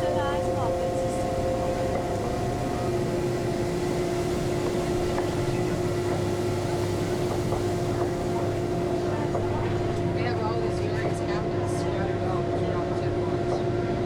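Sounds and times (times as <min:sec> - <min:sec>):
electric train whine: 0:00.0 - 0:12.8
train rumble: 0:00.0 - 0:14.0.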